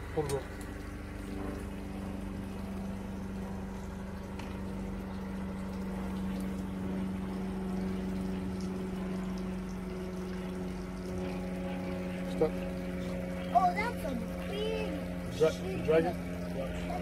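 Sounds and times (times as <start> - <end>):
boat motor humming: 0.0 - 17.0
water washing around hull: 0.0 - 17.0.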